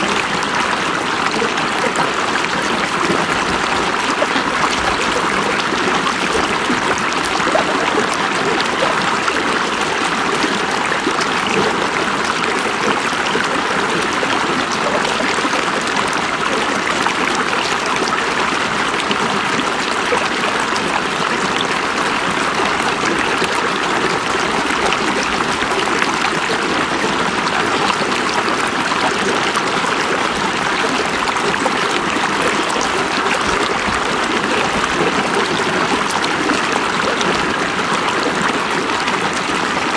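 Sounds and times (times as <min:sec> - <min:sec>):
river water over rocks: 0:00.0 - 0:39.9.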